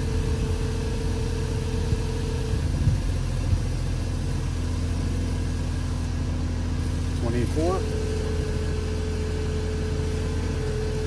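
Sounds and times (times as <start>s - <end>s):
air compressor humming: 0.0s - 11.0s
car engine idling: 0.0s - 11.0s.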